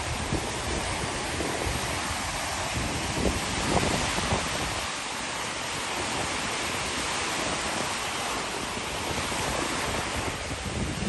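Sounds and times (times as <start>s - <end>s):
waves washing onto shore: 0.0s - 11.0s
wind buffeting microphone: 0.0s - 11.0s.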